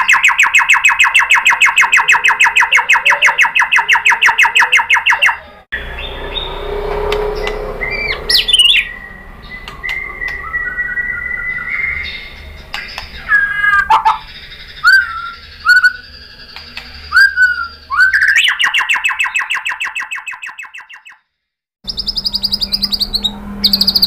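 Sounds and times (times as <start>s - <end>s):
bird singing whistles and rattles: 0.0s - 21.2s, 21.9s - 24.0s.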